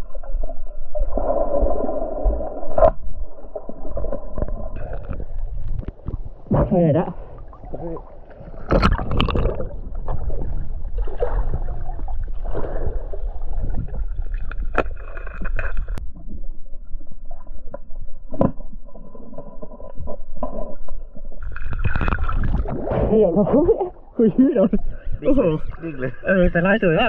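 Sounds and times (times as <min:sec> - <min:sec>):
underwater stream gurgling: 0:00.0 - 0:25.8.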